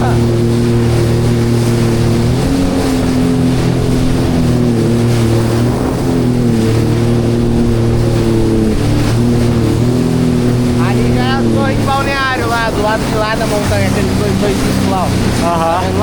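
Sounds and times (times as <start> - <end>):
jet ski engine running: 0.0 - 16.0
water rushing: 0.0 - 16.0
wind rushing: 2.2 - 16.0.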